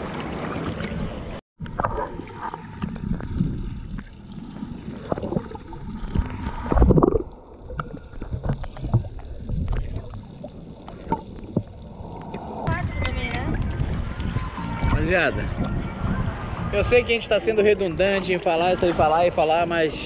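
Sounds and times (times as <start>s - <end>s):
underwater sloshing and gurgling: 0.0s - 16.6s.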